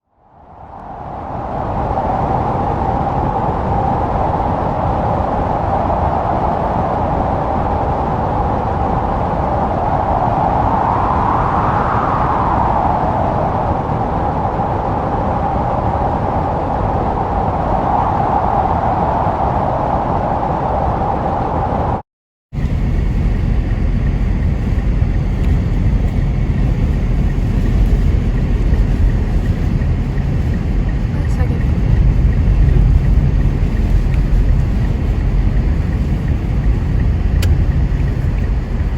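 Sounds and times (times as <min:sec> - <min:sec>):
blizzard wind howling: 0:00.1 - 0:22.0, 0:22.6 - 0:38.9
wind buffeting microphone: 0:00.4 - 0:38.9.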